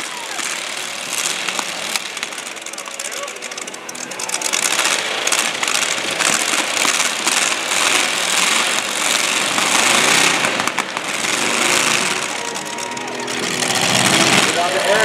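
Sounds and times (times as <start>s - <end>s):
car engines running hard: 0.0s - 15.0s
cars crunching into each other: 0.0s - 15.0s.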